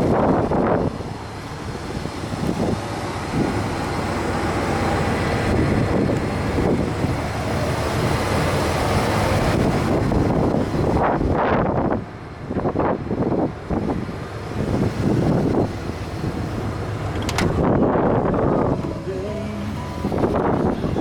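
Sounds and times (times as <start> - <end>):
vehicle and road noise: 0.0 - 21.0
wind buffeting microphone: 0.0 - 21.0.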